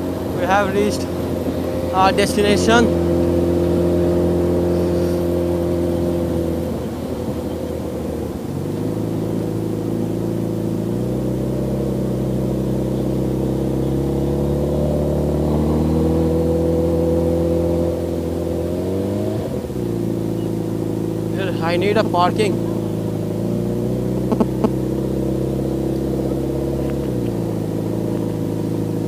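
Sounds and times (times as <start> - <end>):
motorbike engine at low revs: 0.0 - 29.0.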